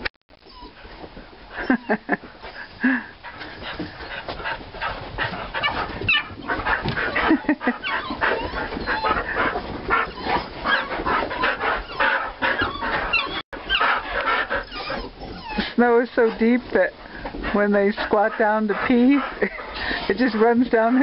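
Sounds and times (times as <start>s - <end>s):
dogs whining and yelping: 0.4s - 20.8s.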